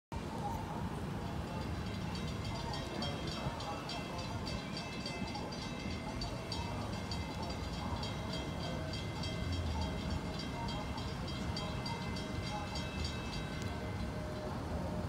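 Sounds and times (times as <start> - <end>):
diesel locomotives rumbling: 0.2 - 15.0
train bell ringing: 0.6 - 15.0.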